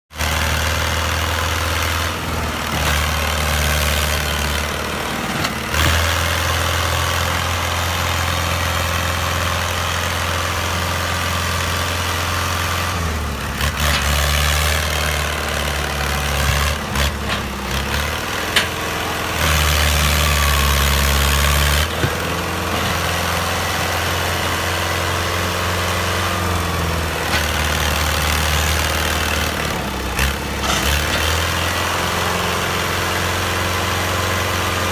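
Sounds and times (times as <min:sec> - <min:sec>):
tractor engine humming: 0:00.2 - 0:34.9.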